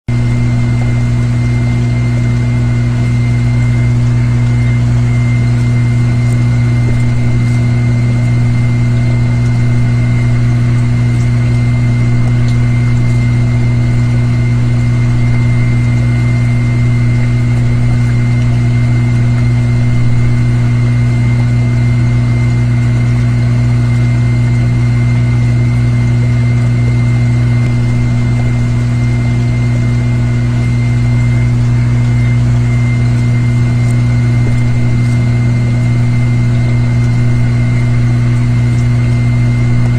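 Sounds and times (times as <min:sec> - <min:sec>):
motor humming with high whine: 0:00.0 - 0:39.9.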